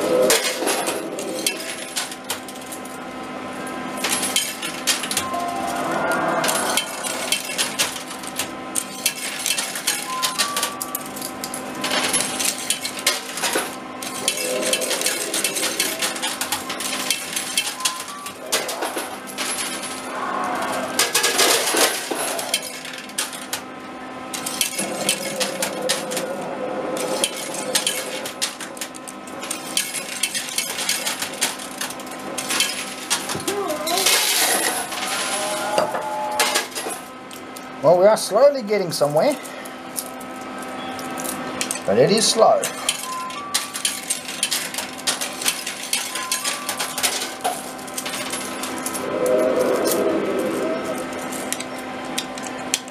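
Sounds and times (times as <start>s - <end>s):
steady background tones: 0.0s - 33.3s, 34.1s - 52.9s
coins clinking in arcade machine: 0.1s - 3.1s, 3.7s - 23.7s, 24.3s - 52.9s.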